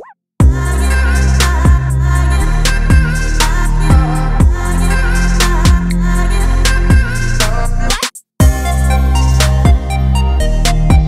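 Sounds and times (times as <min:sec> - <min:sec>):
music with deep bass and drums: 0:00.4 - 0:11.0.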